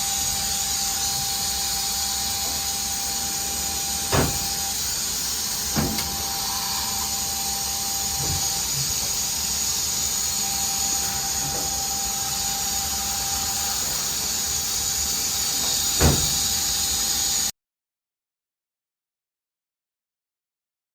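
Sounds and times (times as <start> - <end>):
faint machine whine: 0.0 - 17.5
machine hiss and hum: 0.0 - 17.5.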